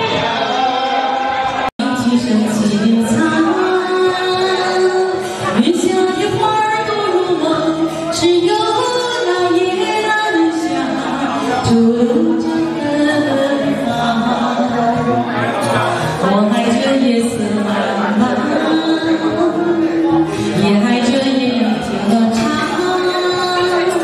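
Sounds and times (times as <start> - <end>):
music with person singing: 0.0 - 24.0.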